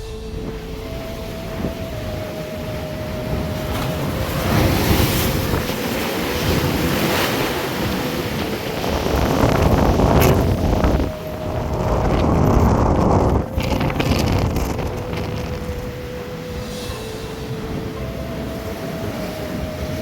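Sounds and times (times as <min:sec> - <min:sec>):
sea waves breaking: 0:00.0 - 0:20.0
wind buffeting microphone: 0:00.0 - 0:20.0.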